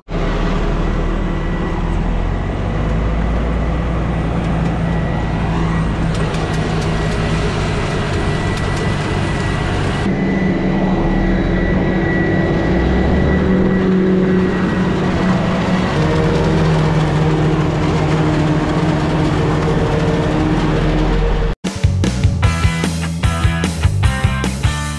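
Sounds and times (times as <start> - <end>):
truck engine: 0.0 - 24.9.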